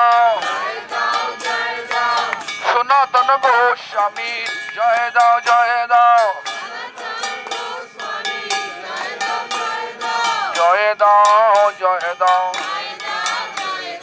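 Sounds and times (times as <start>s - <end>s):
hand cymbals ringing: 0.0s - 14.0s
man singing through megaphone: 0.0s - 14.0s.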